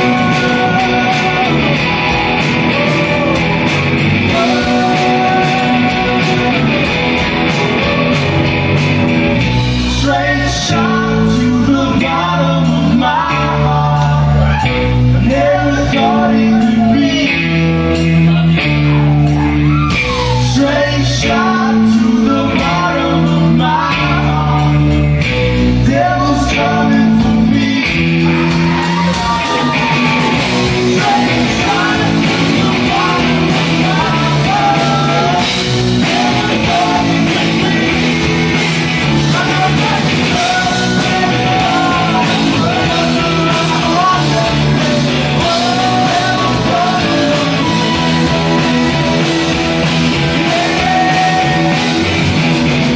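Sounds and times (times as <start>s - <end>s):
man singing: 0.0s - 8.3s, 9.7s - 52.3s
bass guitar: 0.0s - 52.9s
distorted electric guitar: 0.0s - 52.9s
drums with cymbal beat: 0.0s - 52.9s.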